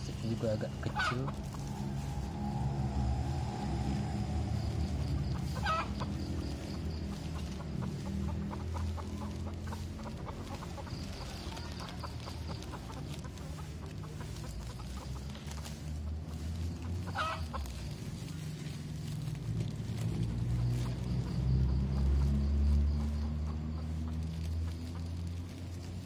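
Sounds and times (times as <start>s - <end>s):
chickens clucking: 0.0s - 26.0s
plastic bag crinkling: 0.0s - 26.0s.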